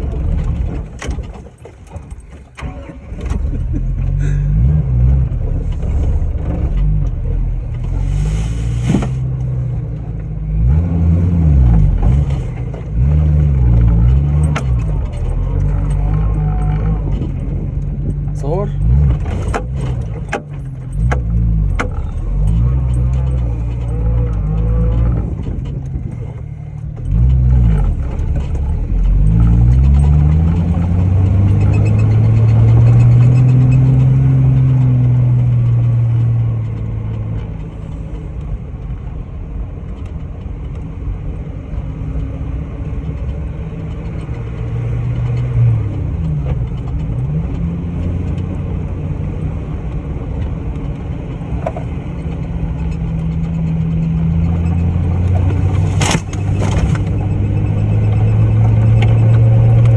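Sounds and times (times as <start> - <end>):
vehicle engine accelerating: 0.0 - 59.9.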